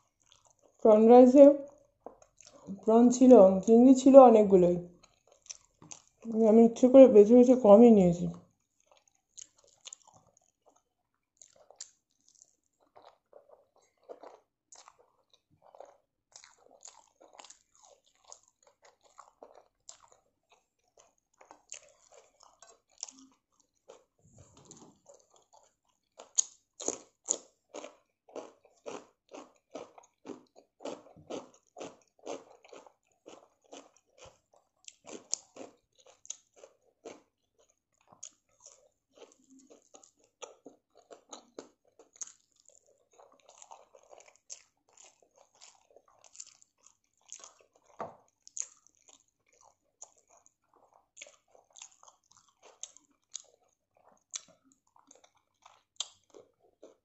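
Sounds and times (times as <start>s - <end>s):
crunchy cucumber chewing: 0.0s - 0.8s, 1.5s - 4.2s, 4.8s - 6.4s, 8.3s - 57.0s.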